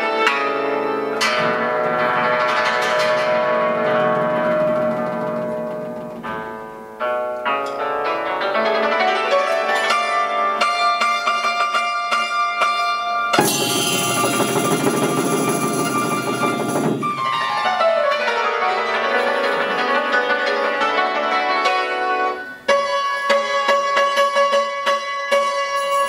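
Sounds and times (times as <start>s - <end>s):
hammered dulcimer playing: 0.0s - 26.0s.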